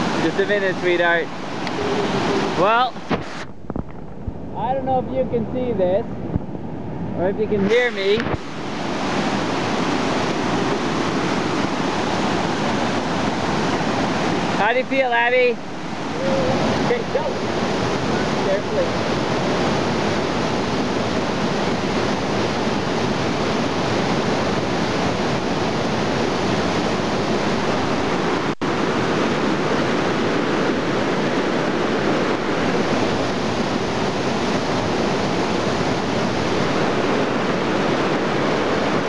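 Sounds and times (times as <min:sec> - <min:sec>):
fast river rushing: 0:00.0 - 0:39.0.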